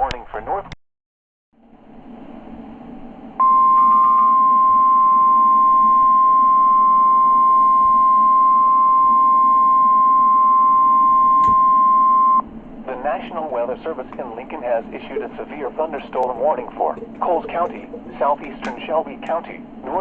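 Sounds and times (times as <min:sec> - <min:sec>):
steady warning alarm tone: 0:03.1 - 0:20.0.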